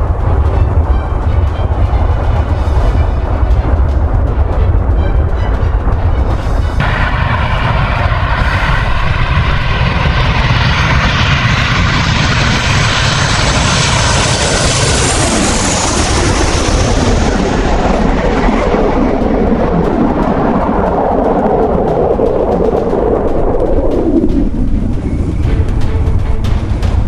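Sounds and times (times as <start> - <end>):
fighter jet passing: 0.0 - 27.0.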